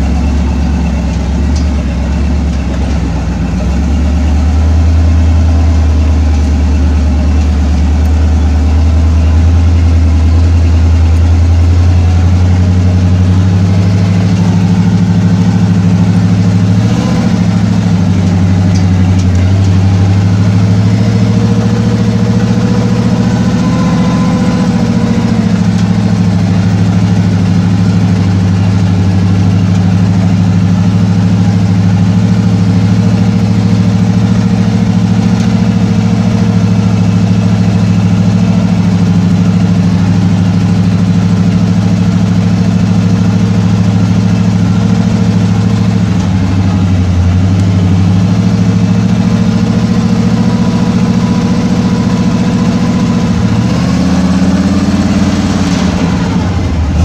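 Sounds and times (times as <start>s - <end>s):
off-road vehicle engine droning: 0.0s - 57.0s.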